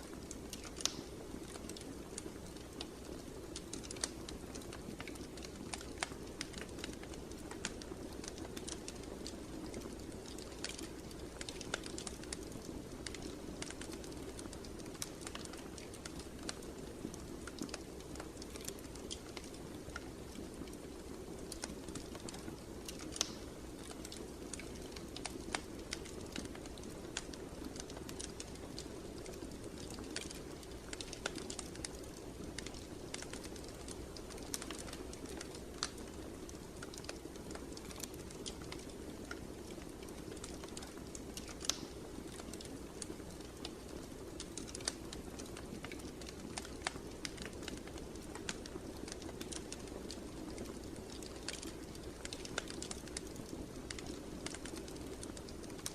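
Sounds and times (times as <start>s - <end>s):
fire crackling and popping: 0.0s - 55.9s.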